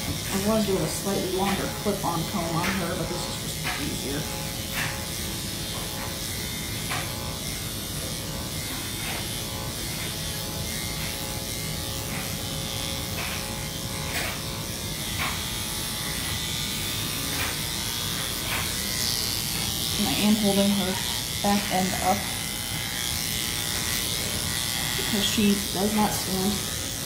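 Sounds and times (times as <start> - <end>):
blade scratching through hair: 0.0 - 27.0
electric clippers running: 0.0 - 27.0.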